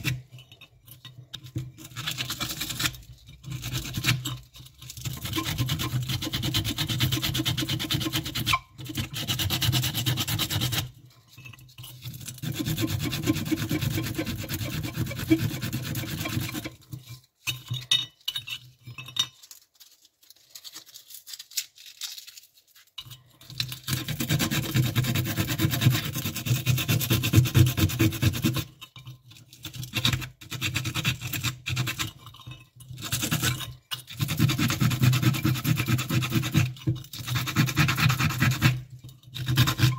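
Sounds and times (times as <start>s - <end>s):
metal part scrubbed on ceramic: 0.0s - 19.8s, 22.8s - 39.9s.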